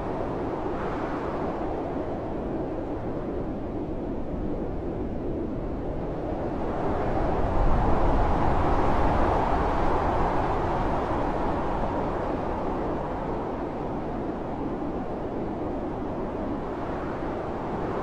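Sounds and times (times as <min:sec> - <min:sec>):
blizzard wind blowing: 0:00.0 - 0:18.0.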